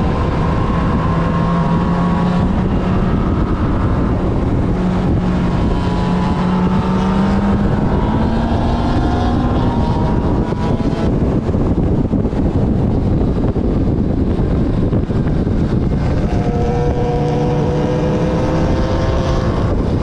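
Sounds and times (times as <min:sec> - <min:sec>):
motorcycle engine accelerating: 0:00.0 - 0:20.0
wind on microphone: 0:00.0 - 0:20.0.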